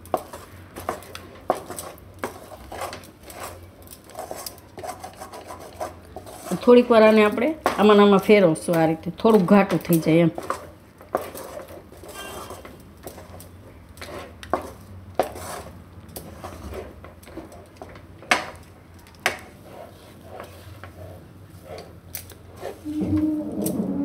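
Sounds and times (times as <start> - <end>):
spatula scraping a pan: 0.1 - 7.8, 10.0 - 17.6, 19.4 - 24.0.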